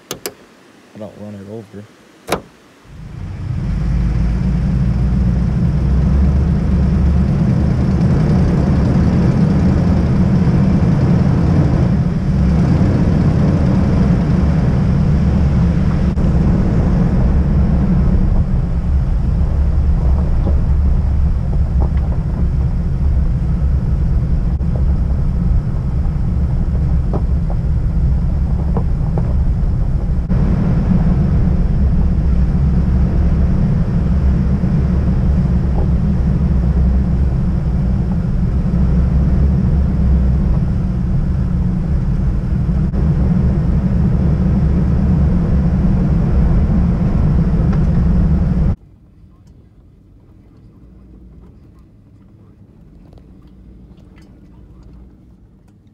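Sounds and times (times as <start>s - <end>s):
wind on microphone: 2.3s - 48.8s.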